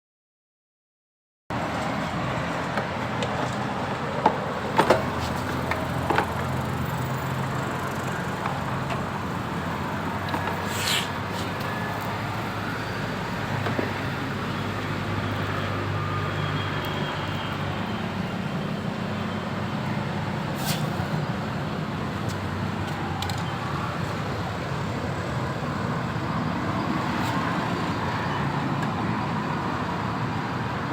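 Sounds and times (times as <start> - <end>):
engine and traffic noise: 1.5 - 30.9.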